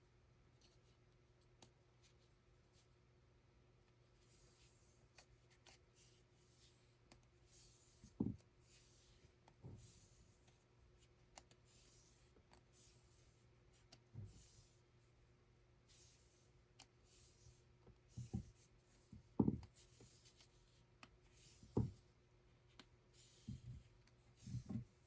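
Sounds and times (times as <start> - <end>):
rustling and scratching of threads: 0.0 - 3.0, 3.9 - 25.0.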